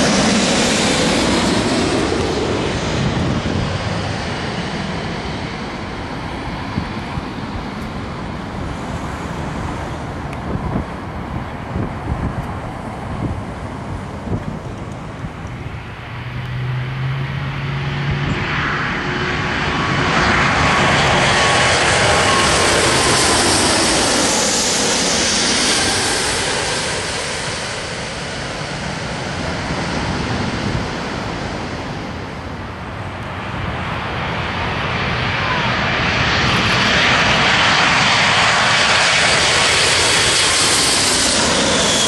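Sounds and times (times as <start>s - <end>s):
airliner on low approach: 0.0s - 42.0s
jet engines at takeoff power: 0.0s - 42.0s.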